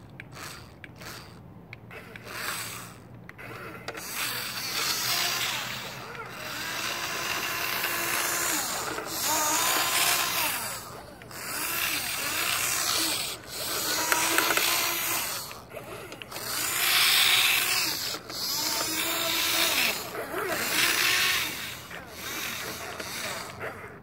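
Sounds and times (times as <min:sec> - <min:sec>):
toy truck motor whirring: 0:00.0 - 0:24.0.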